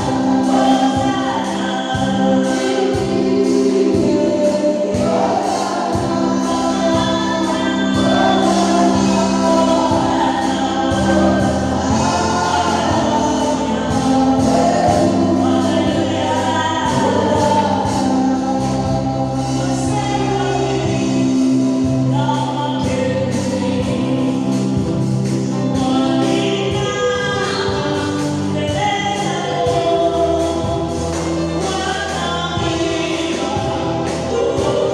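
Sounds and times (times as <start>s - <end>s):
bass notes and steady beat: 0.0s - 34.9s
gospel choir singing: 0.0s - 34.9s.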